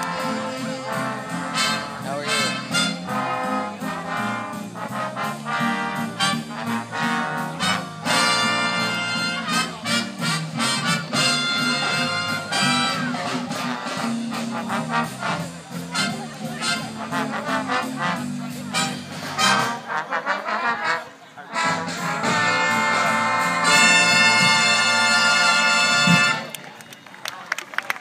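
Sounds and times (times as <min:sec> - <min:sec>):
steady drum beat: 0:00.0 - 0:20.0, 0:21.6 - 0:26.4
trumpets and trombones: 0:00.0 - 0:26.6.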